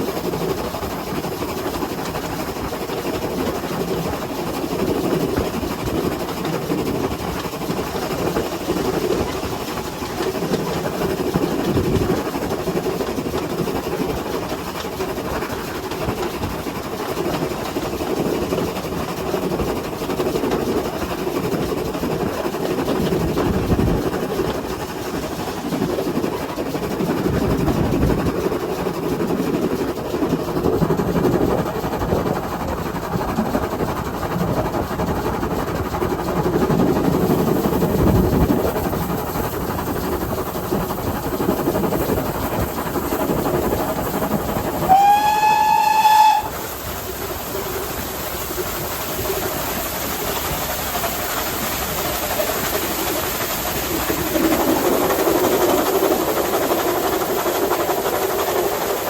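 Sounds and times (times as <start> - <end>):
steam locomotive rumbling on rails: 0.0 - 59.0.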